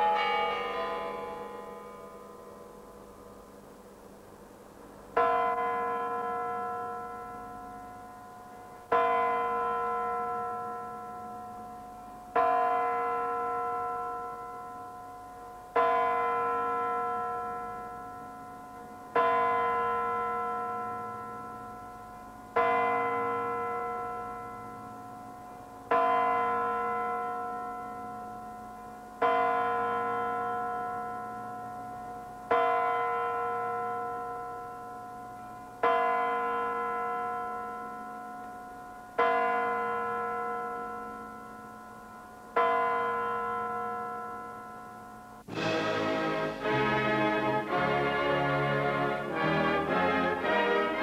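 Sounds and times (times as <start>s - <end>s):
clock bell striking: 0.0s - 2.5s, 5.2s - 51.0s.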